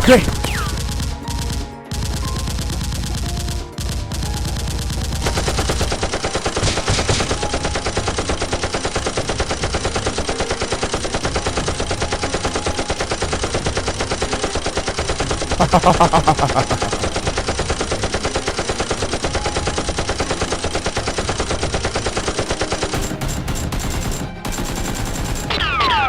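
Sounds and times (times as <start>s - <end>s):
background music: 0.0s - 26.0s
machine-gun fire: 0.0s - 26.0s.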